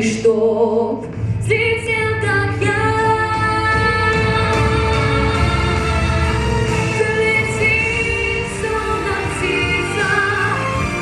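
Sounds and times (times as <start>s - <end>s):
girl singing pop song: 0.0s - 5.5s, 7.0s - 11.0s
backing track: 1.1s - 11.0s.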